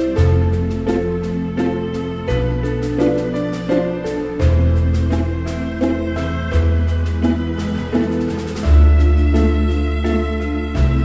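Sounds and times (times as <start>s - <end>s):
low bass notes: 0.0s - 11.0s.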